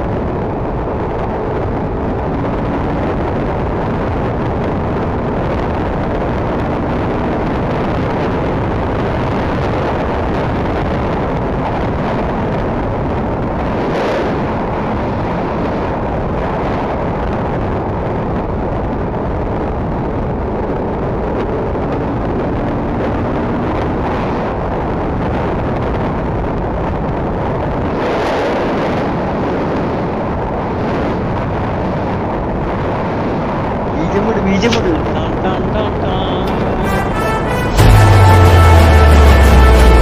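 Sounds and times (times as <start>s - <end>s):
wind rushing on microphone: 0.0s - 37.9s.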